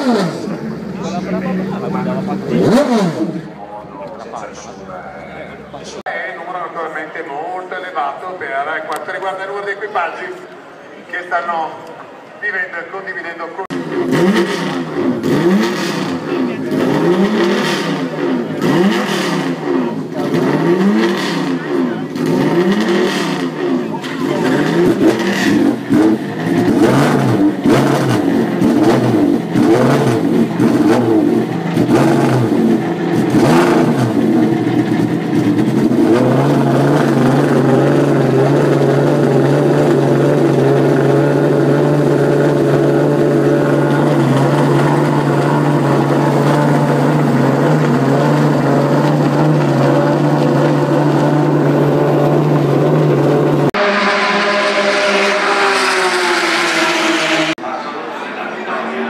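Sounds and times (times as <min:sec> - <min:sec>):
racing engine revving and idling: 0:00.0 - 0:06.1, 0:13.6 - 0:57.8.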